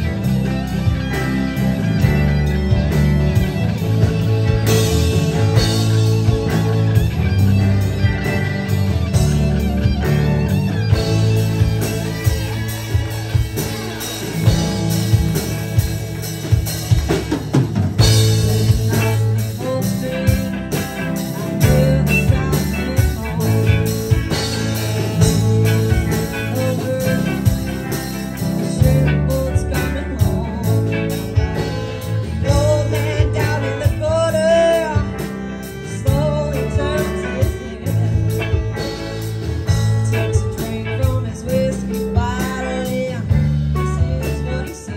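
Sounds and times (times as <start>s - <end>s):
wavering lead melody: 0.0s - 43.1s
live rock band playing: 0.0s - 44.9s.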